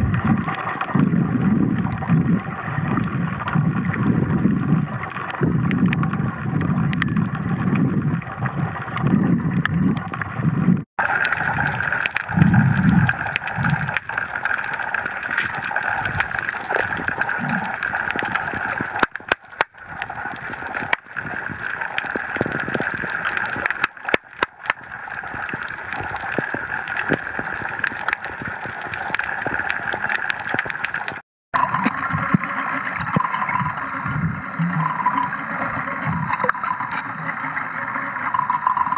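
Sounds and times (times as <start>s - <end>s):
underwater clicks: 0.0s - 10.4s, 11.0s - 38.9s
low water surges: 0.0s - 38.9s
muffled underwater gurgling: 0.0s - 38.9s.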